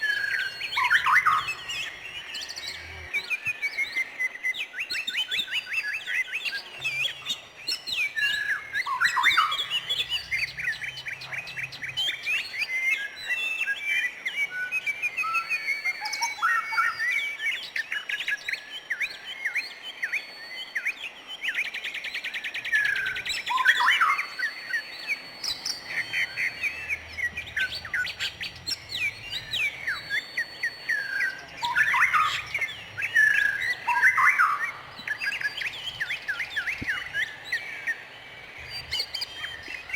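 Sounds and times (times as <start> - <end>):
birds chirping and singing: 0.0 - 39.9
fast bird trill: 0.0 - 39.9.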